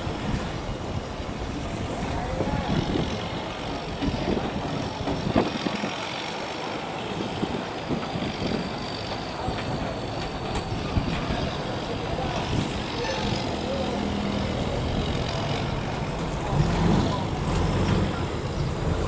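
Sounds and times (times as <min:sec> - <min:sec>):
boat engines running: 0:00.0 - 0:19.0.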